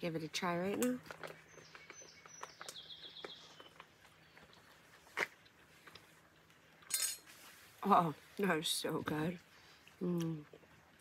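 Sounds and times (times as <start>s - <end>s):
faint chewing: 0.5s - 8.4s, 9.0s - 11.0s.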